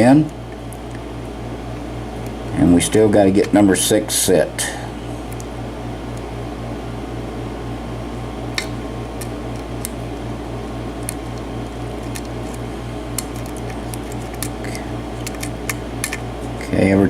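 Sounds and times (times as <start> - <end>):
pulsing mechanical hum: 0.0 - 17.0.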